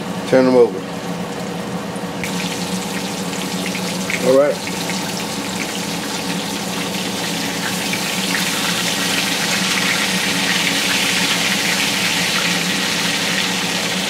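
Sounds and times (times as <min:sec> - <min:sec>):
meat sizzling in a skillet: 0:02.2 - 0:14.0.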